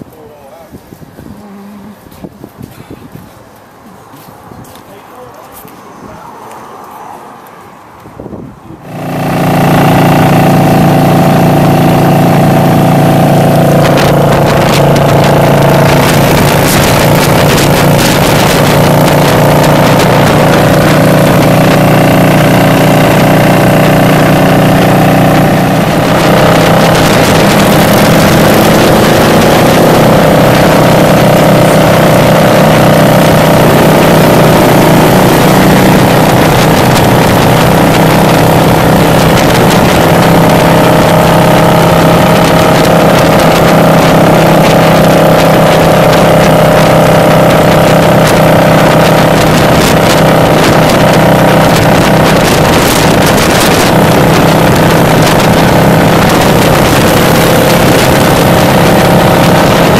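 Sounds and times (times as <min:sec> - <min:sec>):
wind noise on microphone: 0:00.0 - 0:06.7, 0:07.6 - 0:59.9
motorcycle engine drone: 0:00.0 - 0:59.9.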